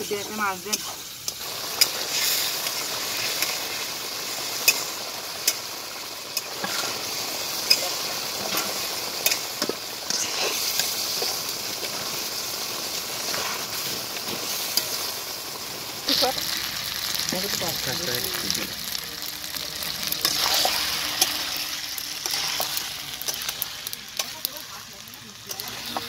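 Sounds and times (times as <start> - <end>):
curry sizzling and bubbling: 0.0 - 26.0.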